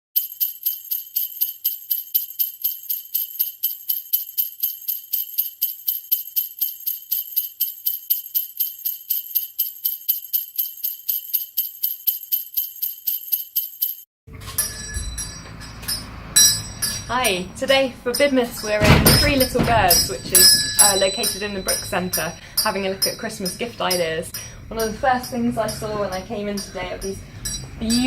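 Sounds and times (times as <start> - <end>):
jingle bells shaken: 0.2 - 28.0.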